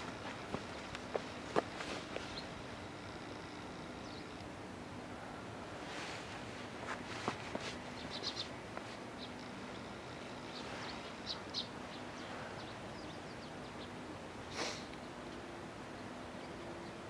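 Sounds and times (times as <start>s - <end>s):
small birds chirping: 0.0s - 4.6s, 5.9s - 17.0s
background hiss: 0.0s - 17.0s
faint low hum: 0.0s - 17.0s.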